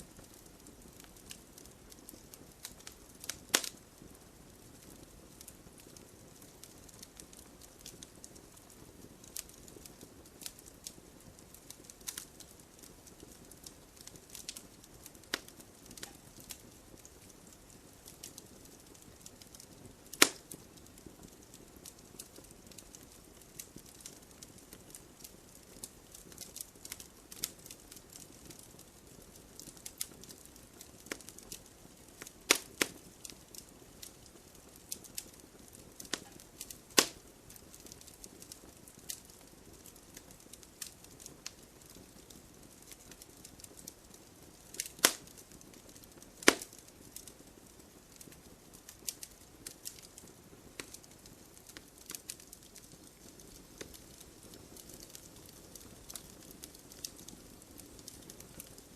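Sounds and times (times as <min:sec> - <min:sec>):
campfire crackling and popping: 0:00.0 - 0:58.9
soft steady fire hiss: 0:00.0 - 0:58.9.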